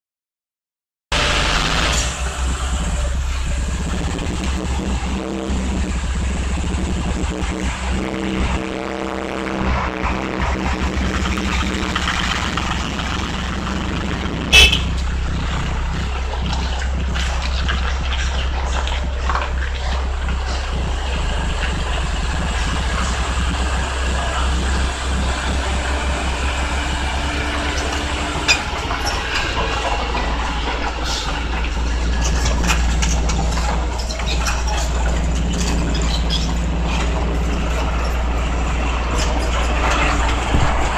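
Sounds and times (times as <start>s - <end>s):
heavy diesel engines rumbling: 1.1s - 40.9s.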